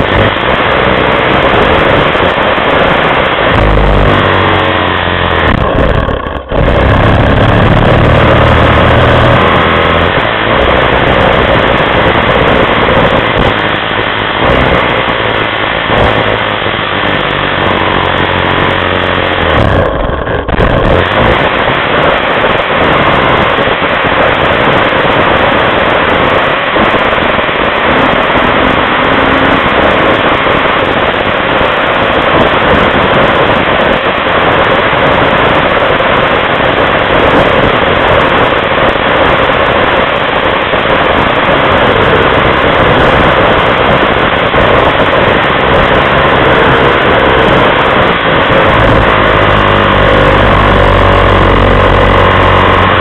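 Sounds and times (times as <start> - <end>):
snowmobile engine running: 0.0 - 53.0.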